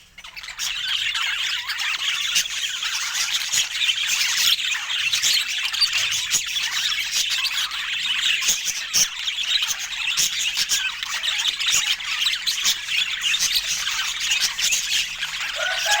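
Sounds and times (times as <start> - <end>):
budgerigars chattering: 0.2 - 16.0.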